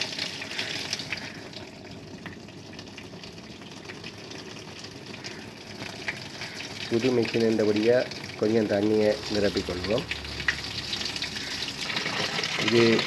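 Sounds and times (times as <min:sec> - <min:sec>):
water filling a tub: 0:00.0 - 0:13.0.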